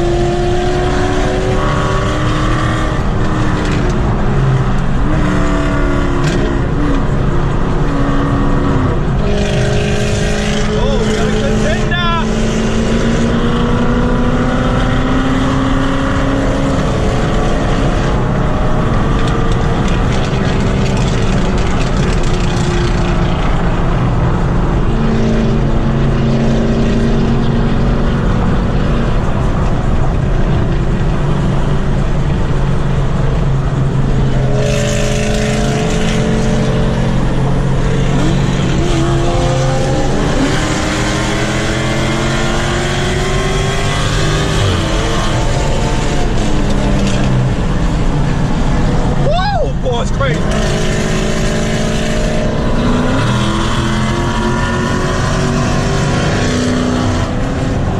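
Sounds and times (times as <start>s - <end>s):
car accelerating: 0.0s - 57.9s
loud car engines revving: 0.0s - 57.9s.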